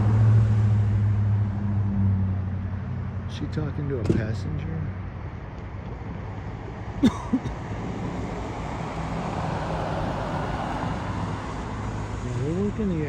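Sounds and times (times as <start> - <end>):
passing vehicle: 0.0 - 13.0.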